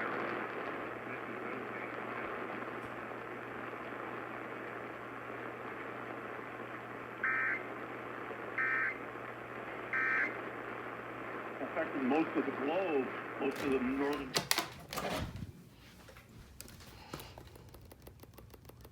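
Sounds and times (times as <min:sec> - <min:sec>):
radio static: 0:00.0 - 0:15.4.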